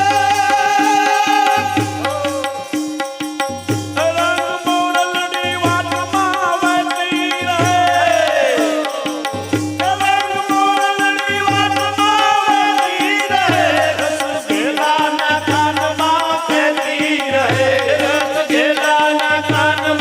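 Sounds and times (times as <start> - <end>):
tabla rhythm: 0.0 - 20.0.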